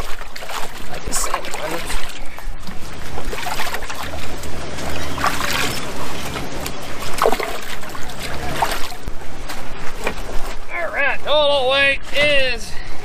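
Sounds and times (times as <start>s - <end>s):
water splashing and trickling: 0.0s - 10.8s
low steady rumble: 0.0s - 13.0s.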